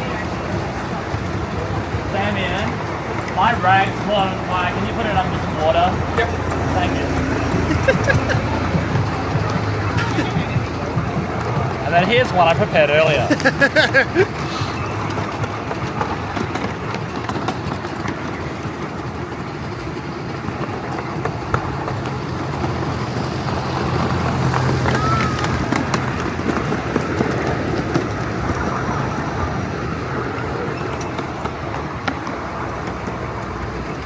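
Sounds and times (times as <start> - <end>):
miniature train rumbling on track: 0.0 - 34.0.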